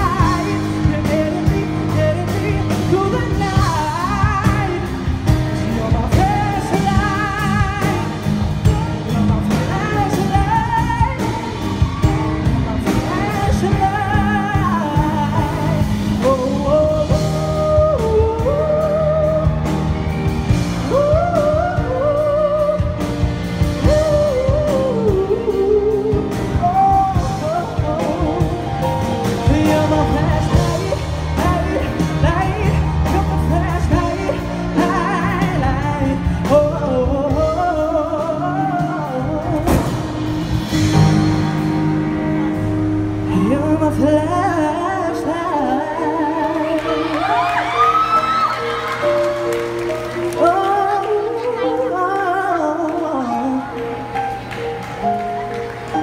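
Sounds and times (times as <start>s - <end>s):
man singing into a microphone: 0.0s - 20.0s, 20.8s - 40.5s, 43.2s - 48.3s, 50.3s - 54.0s
live band with electric guitar: 0.0s - 56.0s.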